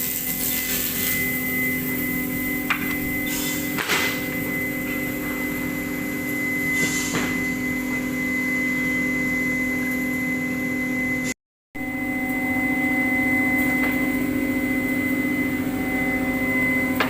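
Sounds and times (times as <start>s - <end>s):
woodworking machine humming: 0.8s - 17.0s.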